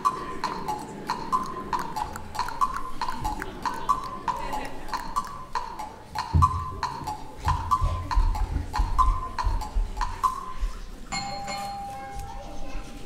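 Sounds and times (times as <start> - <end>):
hollow wooden percussion knocking: 0.0 - 10.7.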